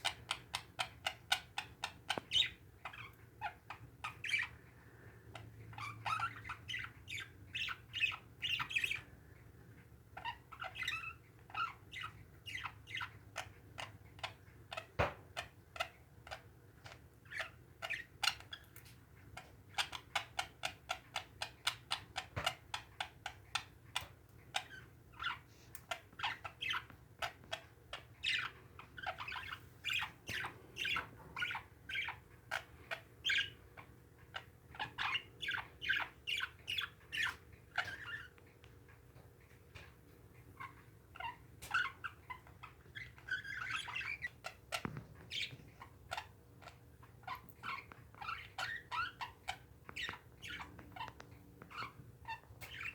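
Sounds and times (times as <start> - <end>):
parakeets chirping and squawking: 0.0 - 9.2, 10.2 - 18.7, 19.4 - 38.3, 40.5 - 52.9.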